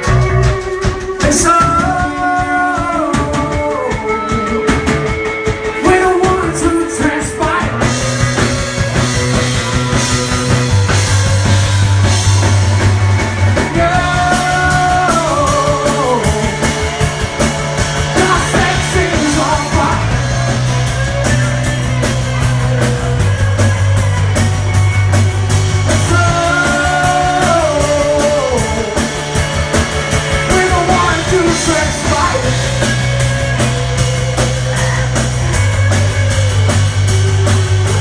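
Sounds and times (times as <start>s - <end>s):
person singing: 0.0s - 11.6s, 13.5s - 24.1s, 25.8s - 29.4s, 30.3s - 38.0s
bass holding long notes: 0.0s - 38.0s
electric guitars: 0.0s - 38.0s.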